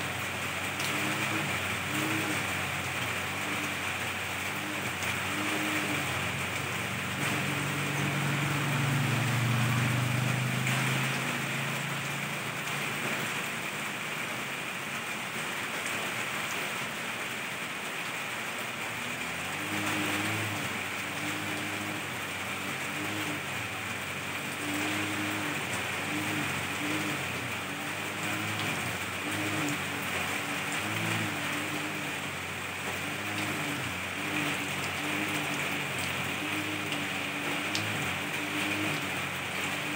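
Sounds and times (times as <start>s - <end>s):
rain on tree leaves: 0.0s - 39.9s.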